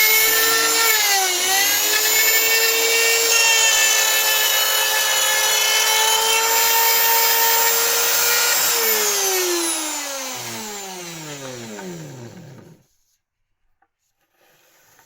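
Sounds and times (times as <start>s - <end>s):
electric motor whining: 0.0s - 12.8s.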